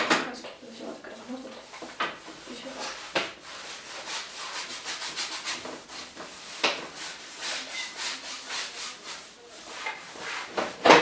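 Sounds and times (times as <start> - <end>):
painting tool rubbing a surface: 0.6 - 10.8.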